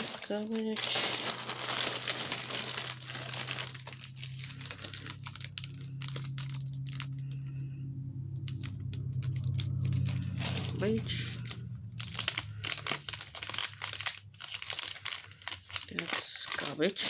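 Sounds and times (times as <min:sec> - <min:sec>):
paper and plastic crinkling: 0:00.0 - 0:07.7, 0:08.4 - 0:17.0
steady low hum: 0:00.0 - 0:15.5.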